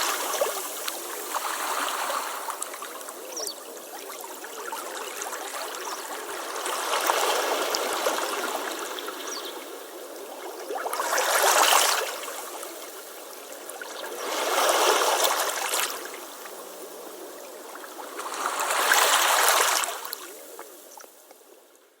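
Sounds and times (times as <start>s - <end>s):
waves breaking on beach: 0.0s - 20.6s.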